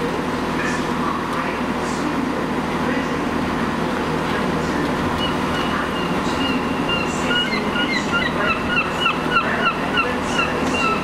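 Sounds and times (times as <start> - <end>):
station hum: 0.0 - 11.0
train rumbling: 0.0 - 11.0.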